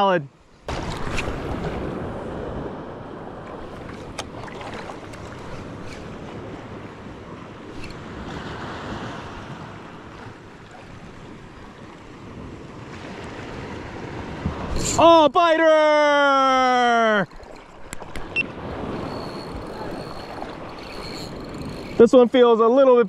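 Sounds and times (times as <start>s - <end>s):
small surf waves washing: 0.0s - 23.0s
wind on microphone: 0.7s - 15.0s, 18.0s - 22.1s.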